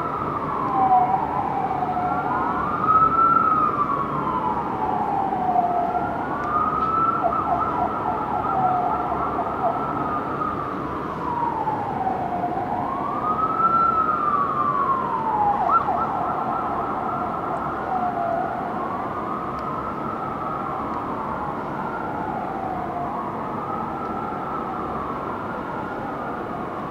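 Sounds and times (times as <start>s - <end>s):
city traffic rumble: 0.0s - 26.9s
fire engine and ambulance sirens: 0.0s - 26.9s.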